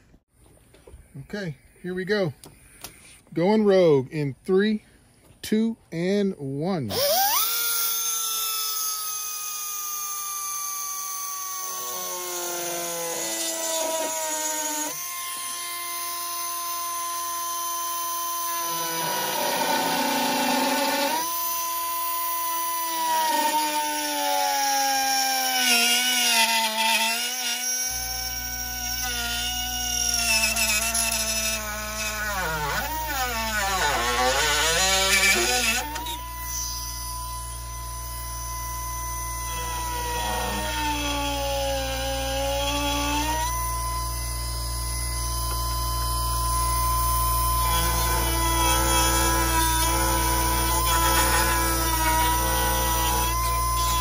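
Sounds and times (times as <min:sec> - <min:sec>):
rotary tool grinding plastic: 0:06.9 - 0:54.0.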